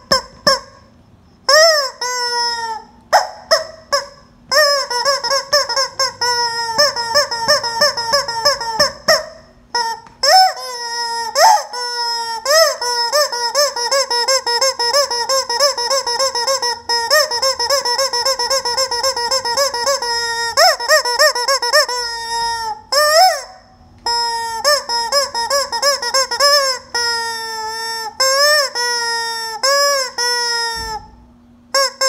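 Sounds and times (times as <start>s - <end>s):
chicken calling: 1.5s - 31.1s.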